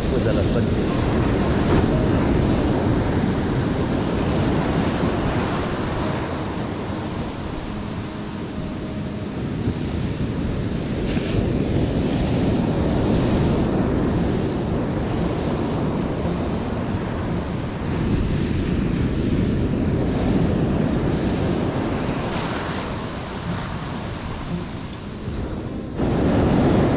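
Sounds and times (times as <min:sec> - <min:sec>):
sea surf washing in: 0:00.0 - 0:26.9
wind buffeting microphone: 0:00.0 - 0:26.9.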